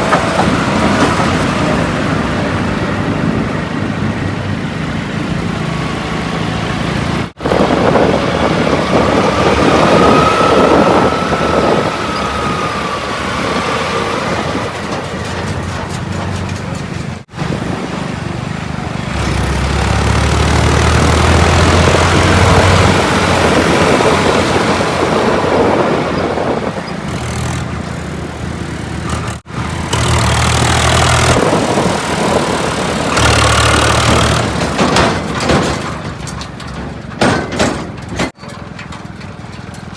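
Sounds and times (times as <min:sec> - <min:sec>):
diesel engines revving: 0:00.0 - 0:39.9.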